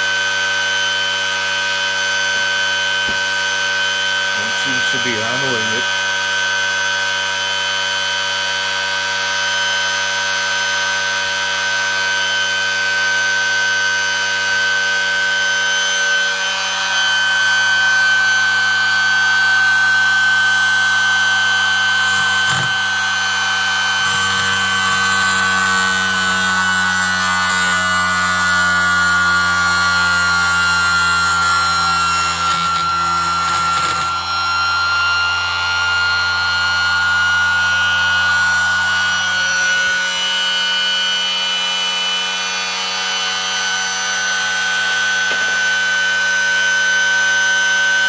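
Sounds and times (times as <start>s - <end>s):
motor whining at high speed: 0.0s - 48.0s.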